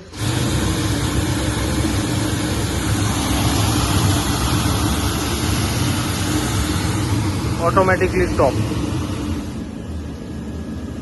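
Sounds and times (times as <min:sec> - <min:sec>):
water spraying hiss: 0:00.0 - 0:09.7
motor hum: 0:00.0 - 0:11.0.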